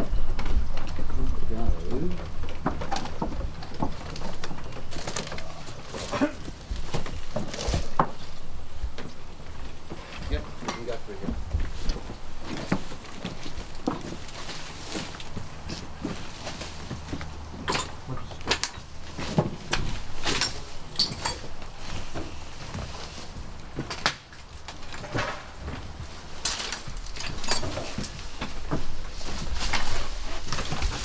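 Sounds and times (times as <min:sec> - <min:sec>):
knocks and clatter: 0:00.0 - 0:08.2, 0:08.8 - 0:31.0
footsteps: 0:00.0 - 0:31.0.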